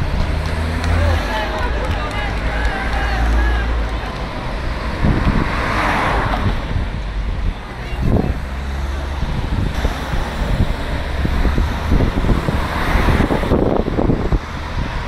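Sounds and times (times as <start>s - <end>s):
cars driving past: 0.0s - 15.0s
wind rumbling on microphone: 1.6s - 15.0s.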